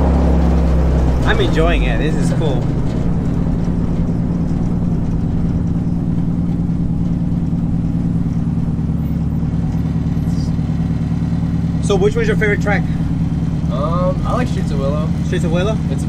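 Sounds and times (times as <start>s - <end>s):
car engine and exhaust droning: 0.0s - 16.0s.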